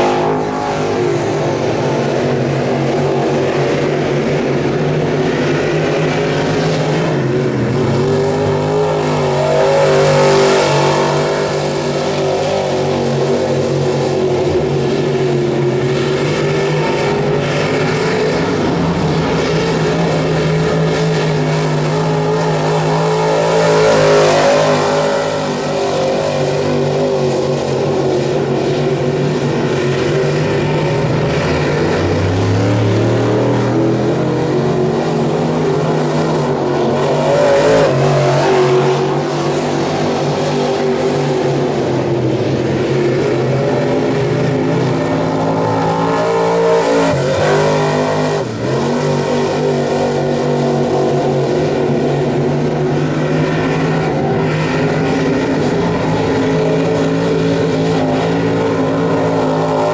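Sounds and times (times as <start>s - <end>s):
race car engine passing: 0.0s - 59.9s.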